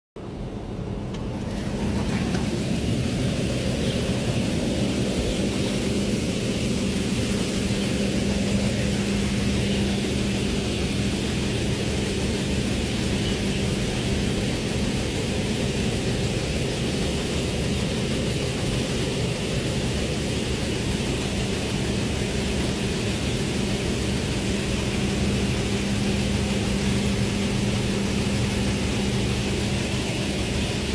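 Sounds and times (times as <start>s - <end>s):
steady machine drone: 0.2s - 30.9s.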